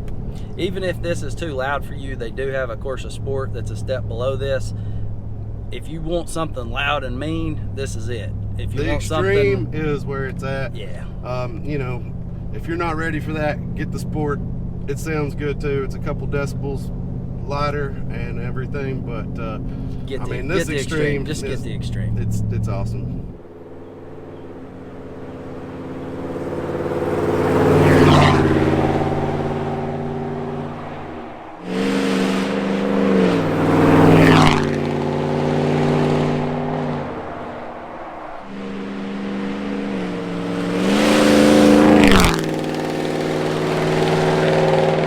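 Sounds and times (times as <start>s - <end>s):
truck engine driving by: 0.0s - 45.0s.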